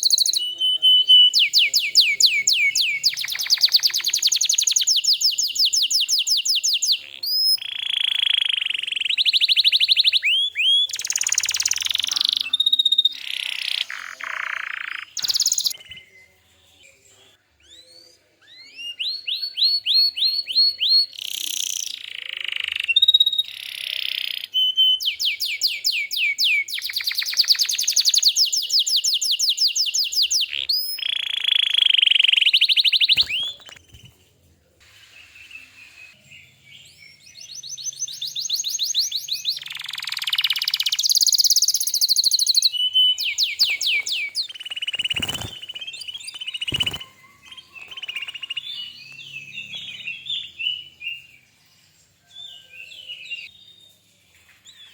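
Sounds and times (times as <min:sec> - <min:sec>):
canary singing trills: 0:00.0 - 0:34.2, 0:35.2 - 0:54.1.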